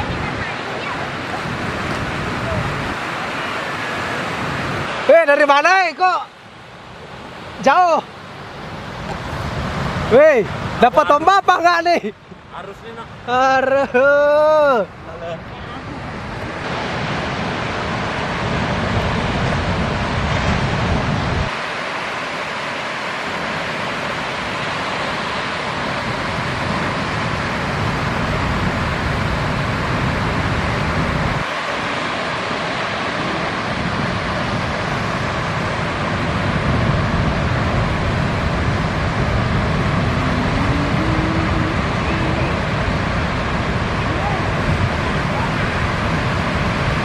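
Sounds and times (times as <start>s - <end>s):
wind on microphone: 0.0s - 5.0s, 14.2s - 47.0s
ocean surf breaking: 0.0s - 47.0s.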